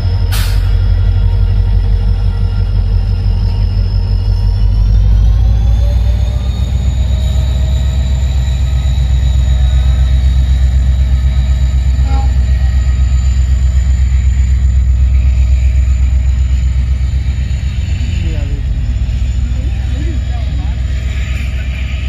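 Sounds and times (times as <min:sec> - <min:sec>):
train coaches rumbling past: 0:00.0 - 0:22.0.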